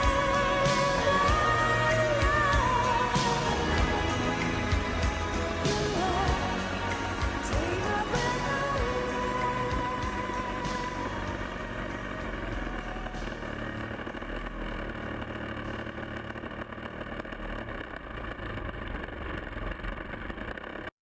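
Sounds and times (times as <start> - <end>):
model aircraft engine running: 0.0 - 20.9.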